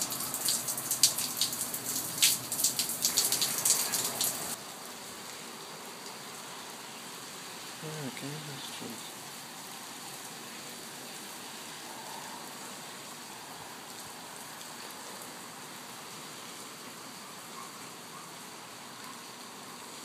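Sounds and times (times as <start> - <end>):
rain on pavement: 0.0 - 20.0.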